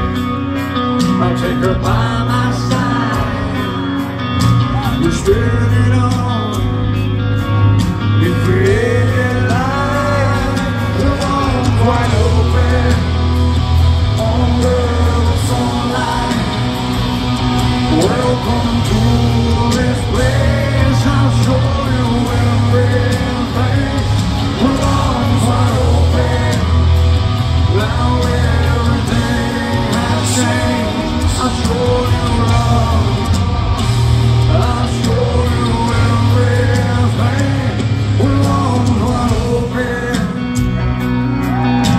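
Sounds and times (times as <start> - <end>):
drums: 0.0 - 41.9
electric guitars: 0.0 - 41.9
heavy bass line: 0.0 - 41.9
person singing: 0.0 - 41.9.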